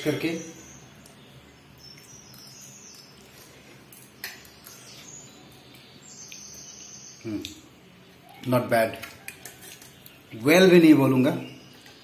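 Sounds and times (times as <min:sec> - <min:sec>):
faint high chirping: 0:00.0 - 0:10.3.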